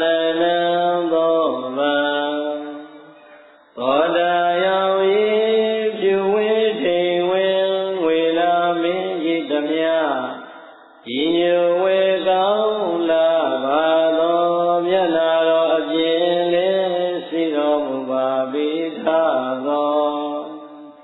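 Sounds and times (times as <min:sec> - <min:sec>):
man chanting: 0:00.0 - 0:21.0.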